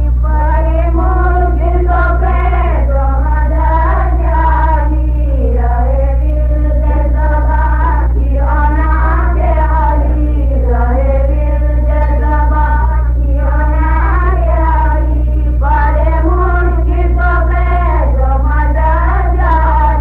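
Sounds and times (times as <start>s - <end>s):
steady low hum: 0.0s - 20.0s
woman chanting with long notes: 0.0s - 20.0s.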